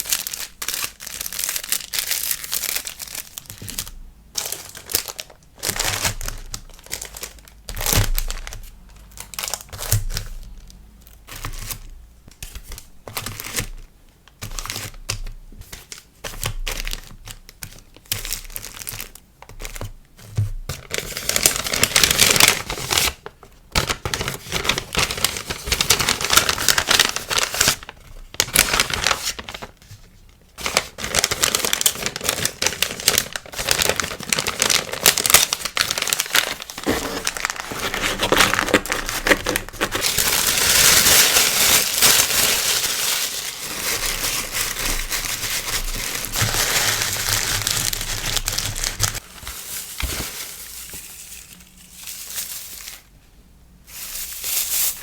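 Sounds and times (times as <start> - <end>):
packaging crinkling and rustling: 0.0 - 53.2, 53.9 - 55.0.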